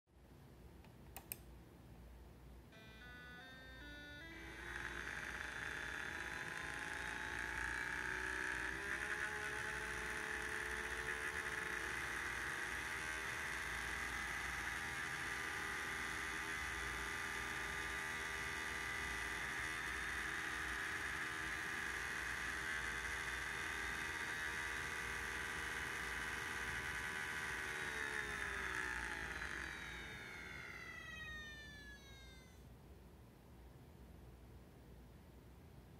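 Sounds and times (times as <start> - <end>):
gear buzz: 2.8 - 32.6
electric motor whining: 2.8 - 32.7.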